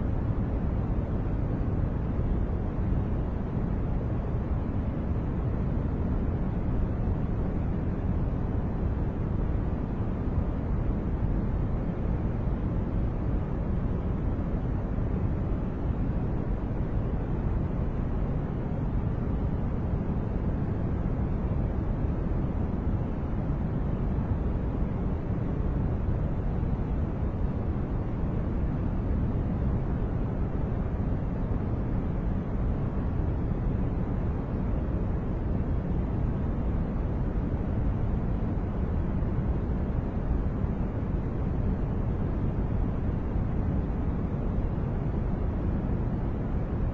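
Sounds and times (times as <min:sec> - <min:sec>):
deep white noise: 0:00.0 - 0:46.9.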